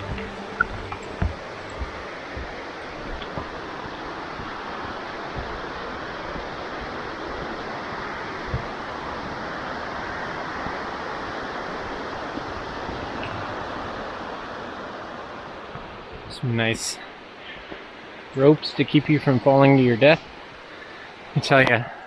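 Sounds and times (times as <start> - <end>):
waterfall rushing: 0.0 - 21.6.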